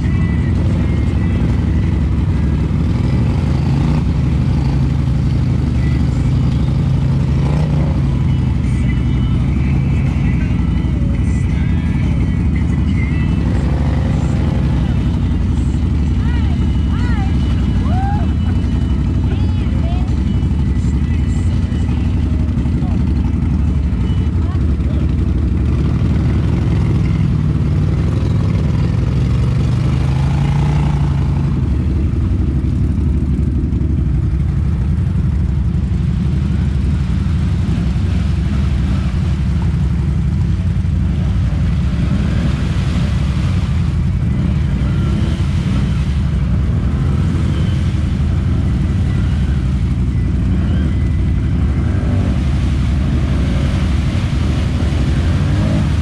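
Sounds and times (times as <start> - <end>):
quad engine running hard: 0.0 - 56.0.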